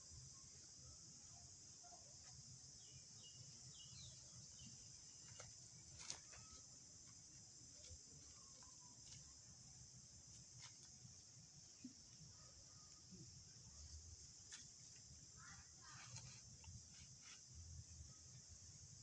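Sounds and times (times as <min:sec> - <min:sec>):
faint chirps: 0:00.0 - 0:09.9, 0:10.5 - 0:19.0
insects buzzing: 0:00.0 - 0:19.0.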